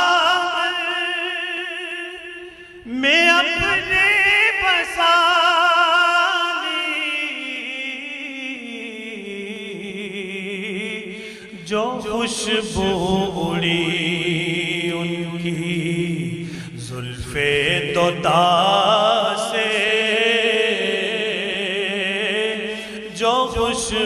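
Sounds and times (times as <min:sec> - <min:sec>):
man singing ornamented notes: 0:00.0 - 0:24.0.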